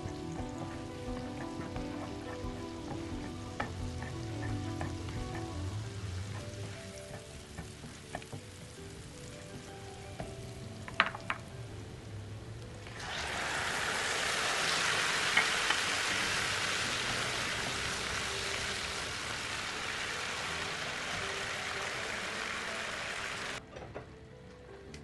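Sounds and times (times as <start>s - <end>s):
food sizzling in hot oil: 0.0s - 23.6s
faint background music: 0.0s - 25.0s.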